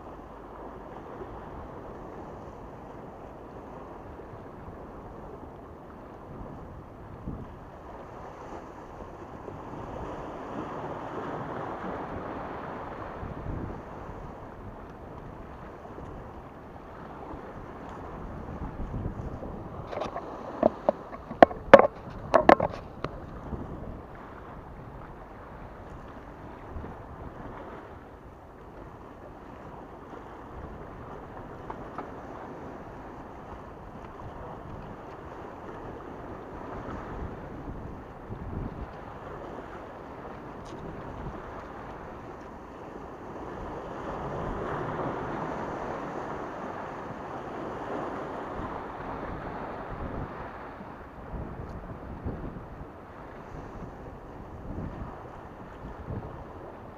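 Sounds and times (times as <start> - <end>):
wind: 0.0 - 56.9
waves splashing against rocks: 7.2 - 28.0, 28.7 - 56.9.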